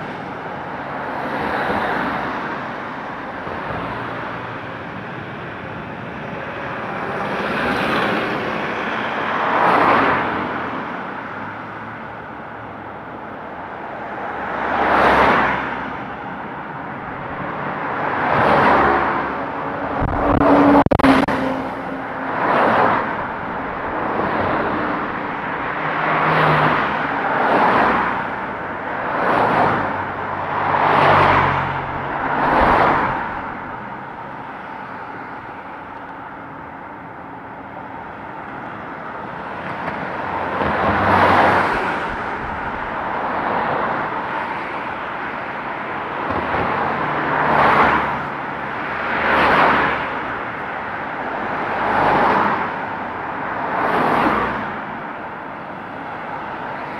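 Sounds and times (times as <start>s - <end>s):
cars passing: 0.0s - 56.9s.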